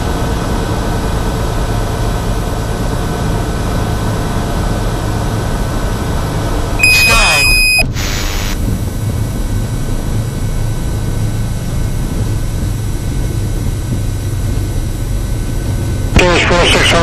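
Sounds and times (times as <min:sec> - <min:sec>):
aircraft piston engine drone: 0:00.1 - 0:17.0.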